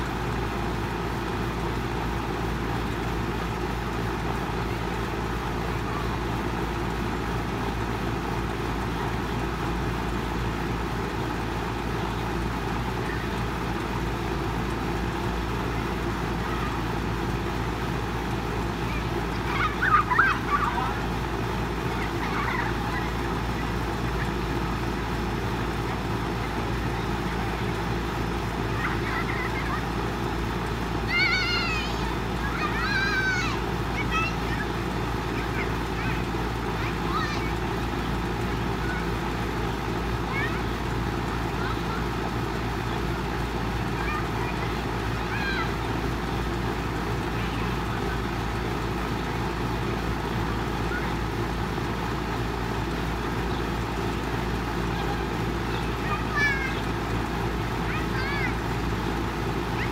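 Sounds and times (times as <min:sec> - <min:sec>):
distant children shouting: 0:00.0 - 0:59.9
outdoor hiss: 0:00.0 - 0:59.9.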